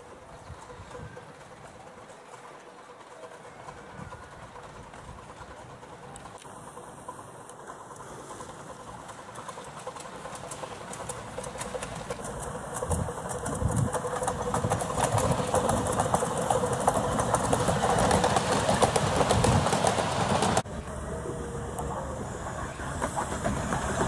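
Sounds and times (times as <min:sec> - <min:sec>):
miniature steam train clattering: 0:00.0 - 0:24.0.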